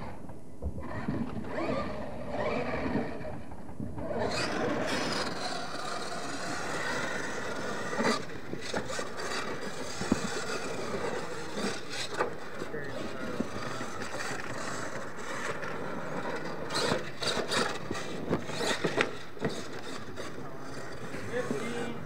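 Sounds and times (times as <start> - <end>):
toy truck motor and tyres rushing: 0.0 - 22.0.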